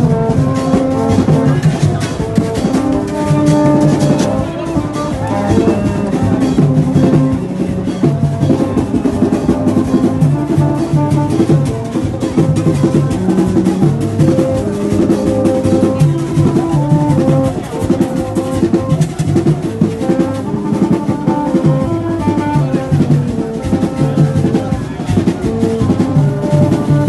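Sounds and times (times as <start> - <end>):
music with fast drumming: 0.0 - 27.0.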